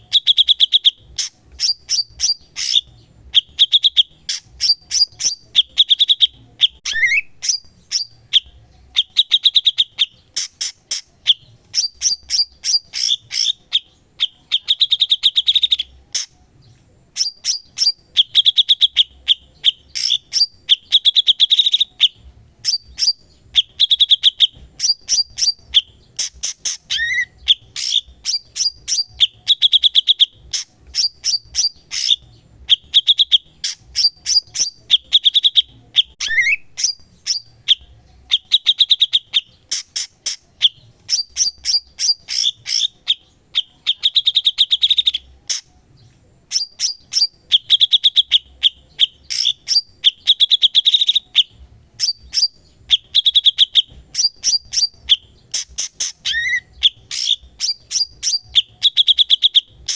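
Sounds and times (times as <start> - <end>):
songbird singing with trills: 0.0 - 59.9.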